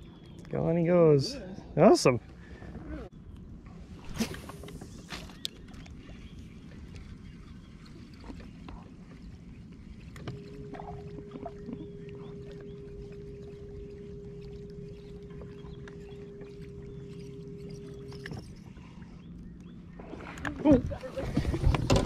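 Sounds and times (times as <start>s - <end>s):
low steady hum: 0.0s - 22.0s
boat motor running: 1.6s - 22.0s
steady whine: 2.2s - 22.0s.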